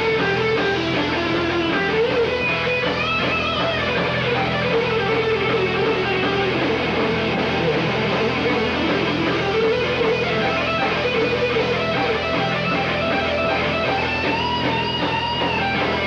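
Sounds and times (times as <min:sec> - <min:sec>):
electric guitar bending notes: 0:00.0 - 0:16.0.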